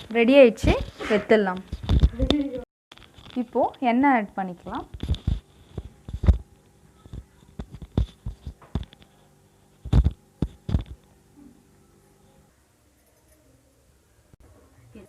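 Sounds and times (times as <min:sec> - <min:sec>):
faint steady hum: 0:01.8 - 0:15.0.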